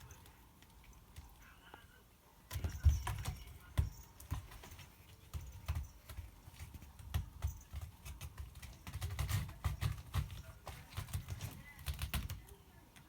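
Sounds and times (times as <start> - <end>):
cat scratching claws: 2.5 - 13.0.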